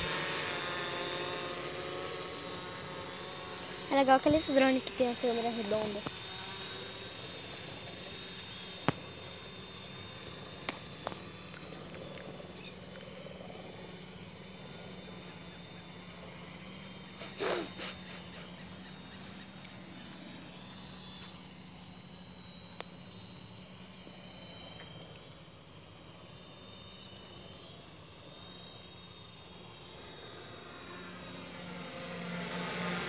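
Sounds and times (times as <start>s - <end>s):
low even hum: 0.0s - 33.0s
outdoor background hiss: 0.0s - 33.0s.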